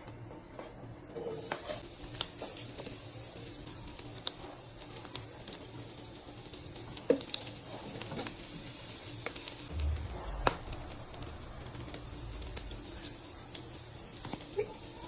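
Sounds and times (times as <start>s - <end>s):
faint sizzle: 1.2s - 15.0s.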